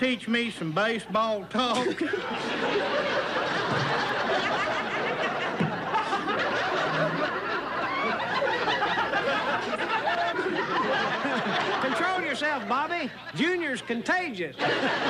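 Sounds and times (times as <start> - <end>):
people laughing heartily: 1.7 - 15.0.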